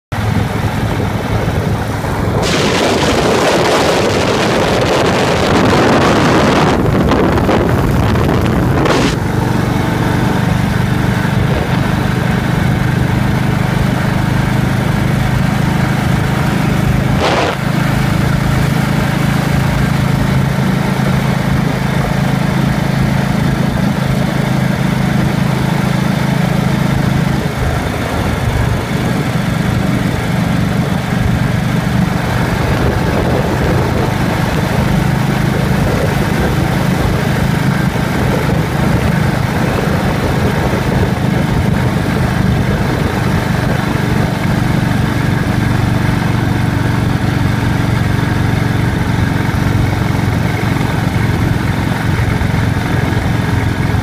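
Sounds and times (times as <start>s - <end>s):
motorcycle engine running: 0.0s - 54.0s
wind rushing over microphone: 0.1s - 54.0s.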